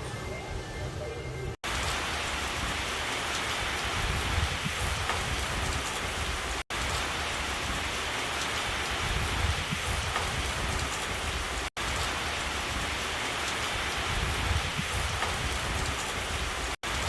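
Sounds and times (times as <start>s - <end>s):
rain falling: 1.6s - 17.0s.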